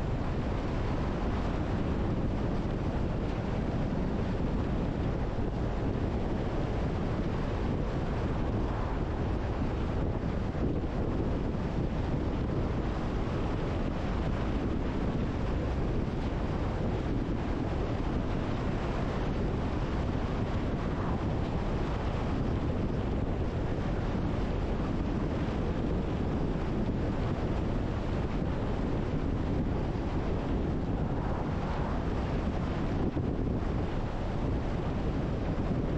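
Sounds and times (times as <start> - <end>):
wind and road noise from car: 0.0 - 35.9.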